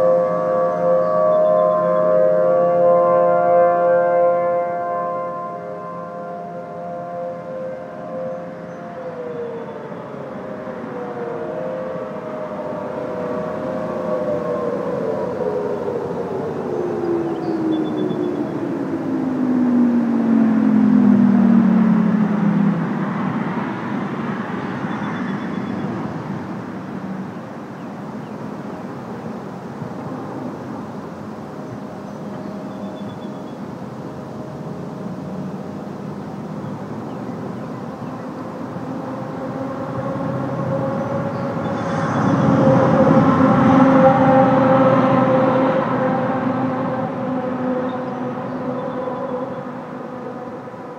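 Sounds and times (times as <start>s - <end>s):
warning siren winding down: 0.0s - 26.8s, 29.0s - 50.9s
distant road traffic: 0.0s - 50.9s.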